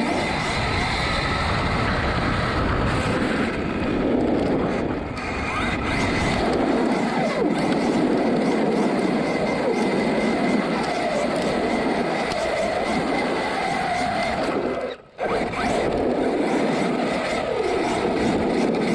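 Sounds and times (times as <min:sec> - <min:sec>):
electric motor whine: 0:00.0 - 0:18.9.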